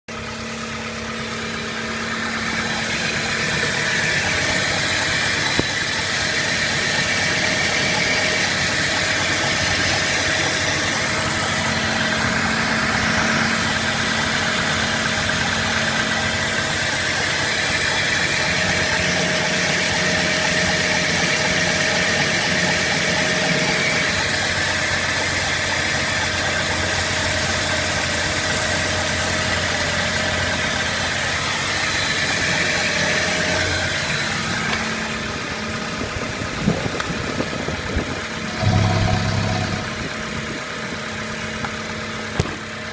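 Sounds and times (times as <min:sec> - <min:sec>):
car engine idling: 0:00.1 - 0:42.9.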